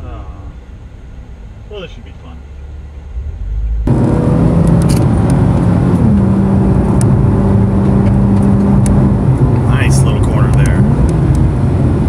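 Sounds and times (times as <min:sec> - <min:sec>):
car engine cruising from inside cabin: 0:01.8 - 0:12.0.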